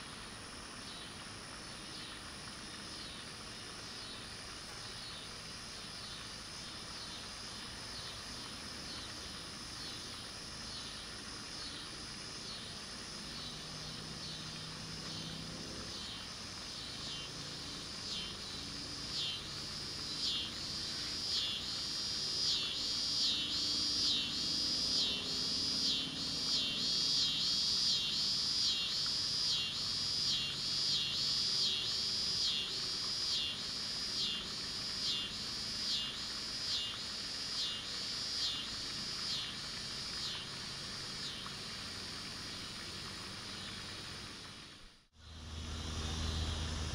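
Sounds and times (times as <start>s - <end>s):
faint evening ambience: 0.0s - 46.9s
insect raspy pulsing call: 0.0s - 46.9s.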